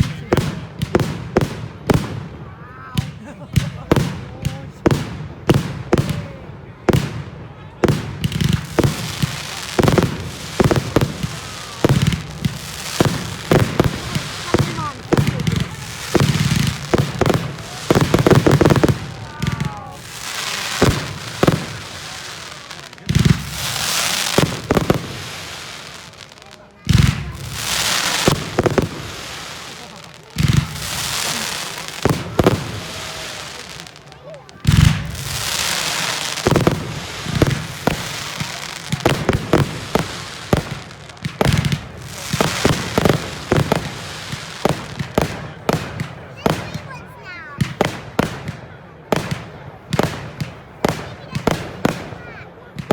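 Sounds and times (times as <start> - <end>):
crackling hiss of fireworks: 0.0 - 52.9
fireworks bangs: 0.0 - 52.9.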